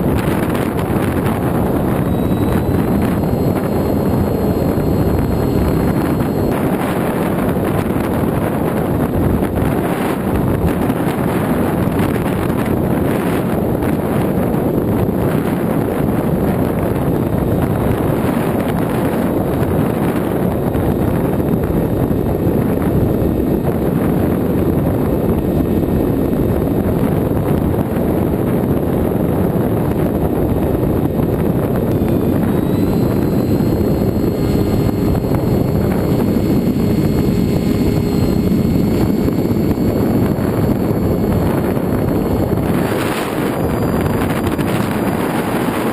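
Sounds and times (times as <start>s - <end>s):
electric motor and propeller: 0.0s - 45.9s
faint high whine: 0.0s - 45.9s
wind rushing over microphone: 0.0s - 45.9s.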